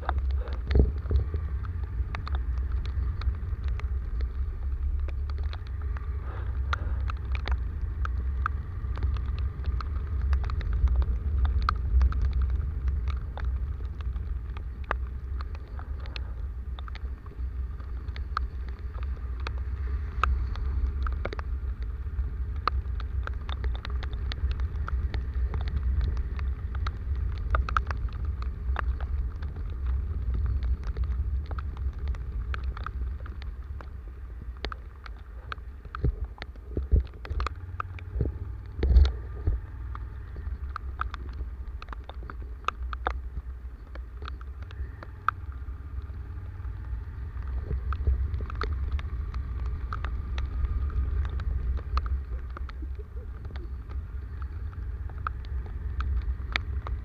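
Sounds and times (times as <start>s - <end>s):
rain tapping: 0.0s - 57.0s
wind buffeting microphone: 0.0s - 57.0s.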